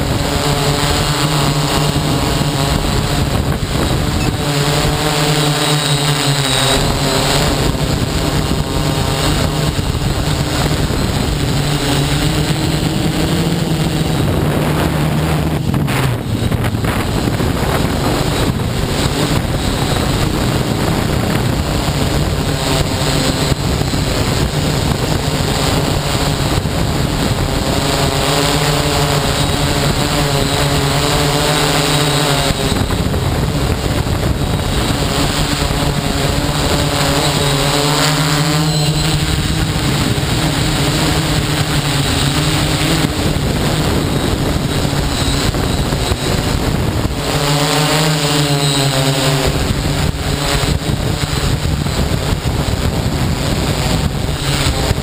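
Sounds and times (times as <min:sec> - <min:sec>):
drone motors humming: 0:00.0 - 0:55.0
wind on microphone: 0:00.0 - 0:55.0.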